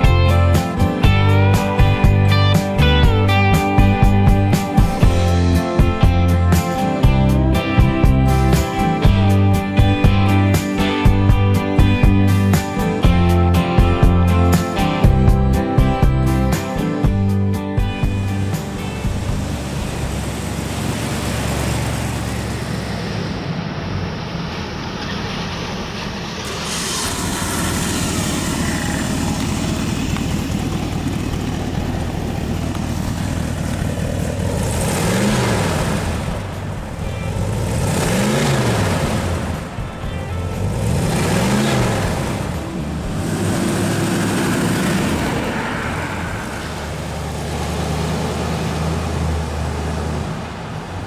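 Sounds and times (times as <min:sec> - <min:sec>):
car engine idling: 0:00.0 - 0:51.0
car engine revving: 0:00.0 - 0:51.0
car pulling away: 0:00.0 - 0:51.0.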